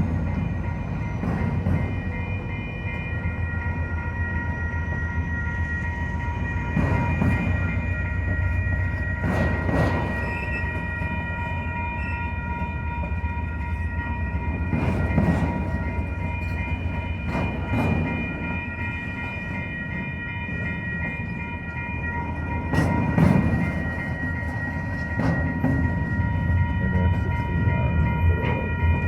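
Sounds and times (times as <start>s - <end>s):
freight train cars rumbling: 0.0s - 29.0s.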